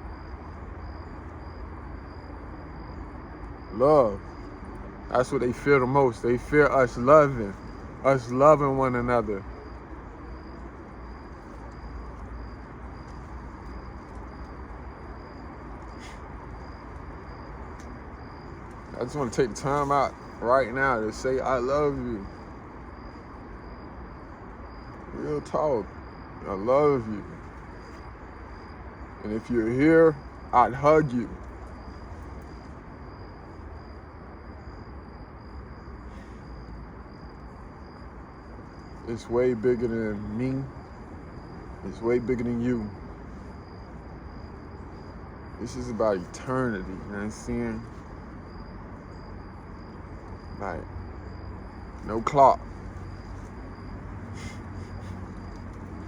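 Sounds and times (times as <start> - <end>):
insect chirping: 0.0 - 56.0
low outdoor rumble: 0.0 - 56.0.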